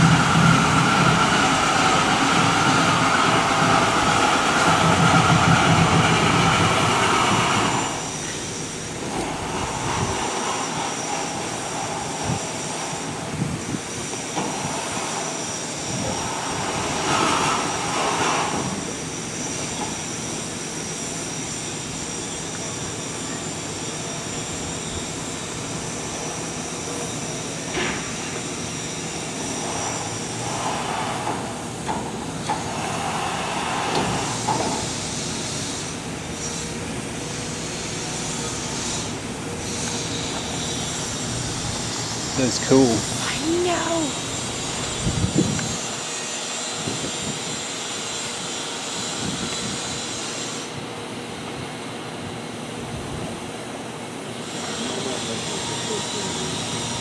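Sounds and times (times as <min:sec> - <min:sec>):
steam locomotive hiss and machinery: 0:00.0 - 0:57.0.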